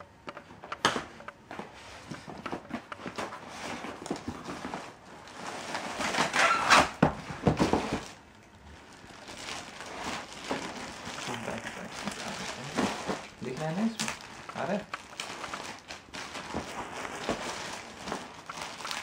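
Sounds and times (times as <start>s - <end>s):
plastic packaging crinkling: 2.2s - 19.0s.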